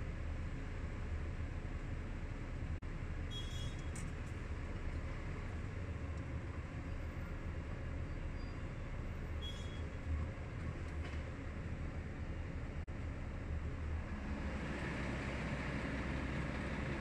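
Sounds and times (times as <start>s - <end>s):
road and cab noise: 0.0s - 17.0s
truck diesel engine drone: 0.0s - 17.0s.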